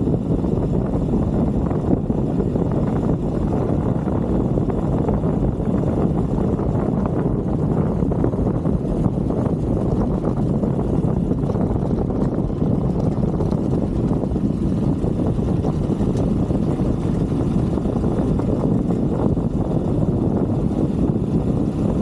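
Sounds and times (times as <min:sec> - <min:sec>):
motorbike engine: 0:00.0 - 0:22.0
wind buffeting microphone: 0:00.0 - 0:22.0.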